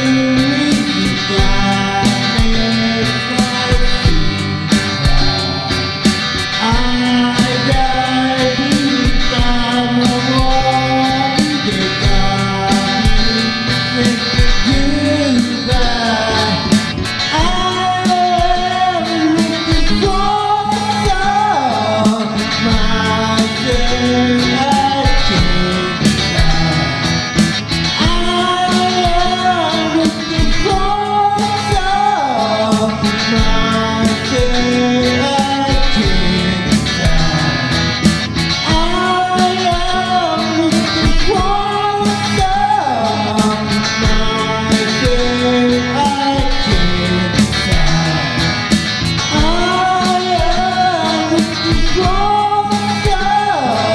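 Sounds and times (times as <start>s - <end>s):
pitch-bending lead melody: 0.0s - 53.9s
rock music with guitars and drums: 0.0s - 53.9s.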